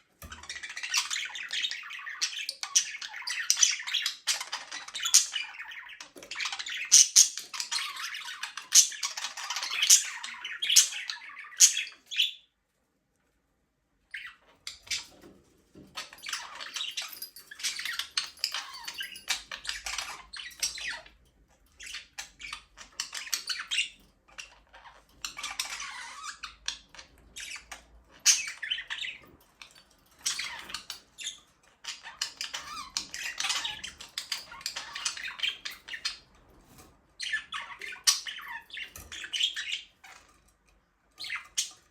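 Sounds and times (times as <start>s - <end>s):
budgerigars chattering and chirping: 0.2s - 12.5s, 14.1s - 15.3s, 15.9s - 41.9s.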